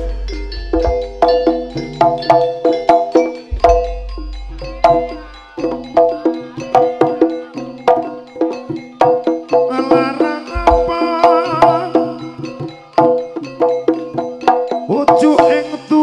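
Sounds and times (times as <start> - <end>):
drumming: 0.0 - 16.0
struck bronze pitched percussion: 0.0 - 16.0.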